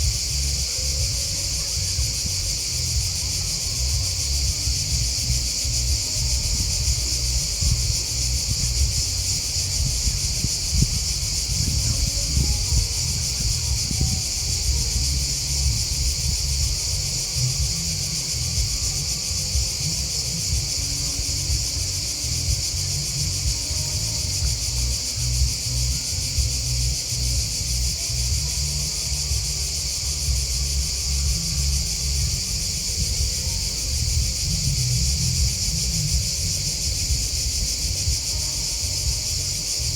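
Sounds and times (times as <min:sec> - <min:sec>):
low rumble: 0:00.0 - 0:38.2
insects chirping chorus: 0:00.0 - 0:39.9.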